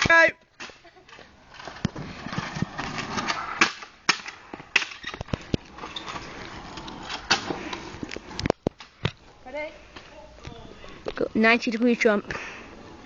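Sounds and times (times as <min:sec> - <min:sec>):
scooter wheels rolling on asphalt: 0:00.0 - 0:13.0.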